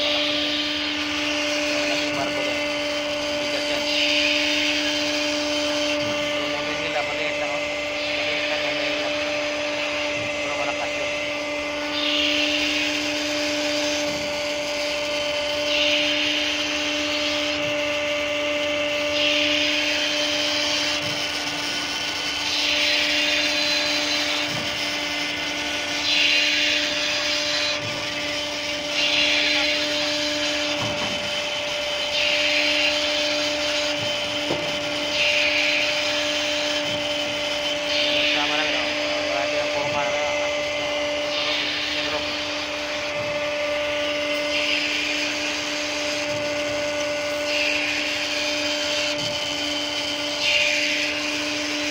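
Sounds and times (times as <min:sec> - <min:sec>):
winch motor hum: 0:00.0 - 0:51.9.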